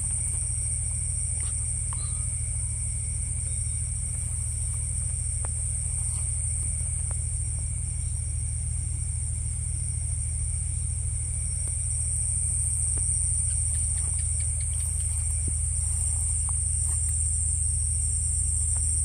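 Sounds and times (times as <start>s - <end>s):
constant low hum: 0.0s - 19.0s
crickets chirring: 0.0s - 19.0s.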